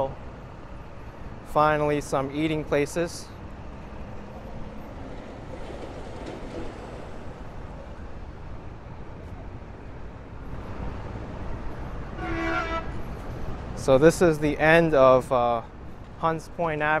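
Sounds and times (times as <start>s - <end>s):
heavy traffic rumble: 0.0s - 17.0s.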